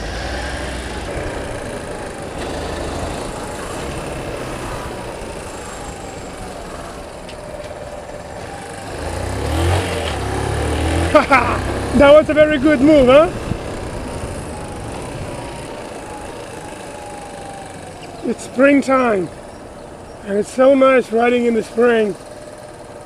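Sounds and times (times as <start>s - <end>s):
motorcycle engine hum: 0.0s - 23.0s
traffic noise: 0.0s - 23.0s.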